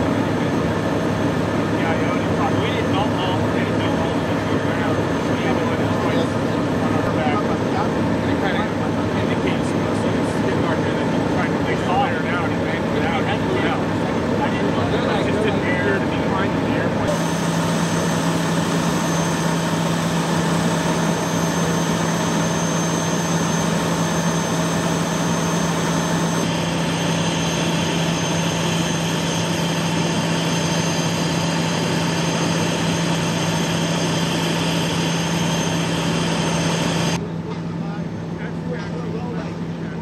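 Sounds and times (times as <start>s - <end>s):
fire engine idling: 0.0s - 40.0s.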